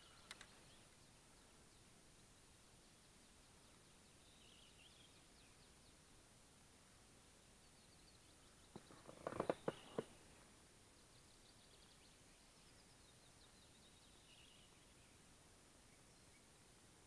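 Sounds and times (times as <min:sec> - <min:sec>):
distant birds chirping: 0:00.0 - 0:06.2, 0:07.5 - 0:16.7.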